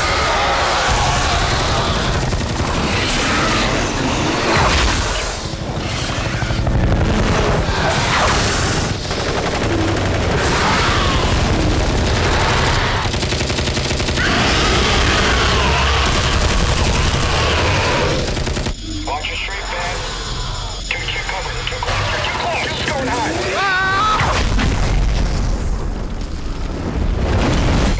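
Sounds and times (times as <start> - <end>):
machine guns firing in bursts: 0.0 - 19.8, 20.9 - 23.6
helicopter rotors throbbing: 0.0 - 27.9.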